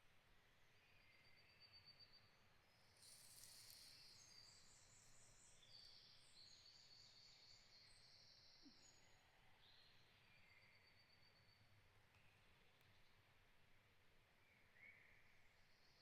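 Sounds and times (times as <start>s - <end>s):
faint forest ambience: 0.0s - 16.0s.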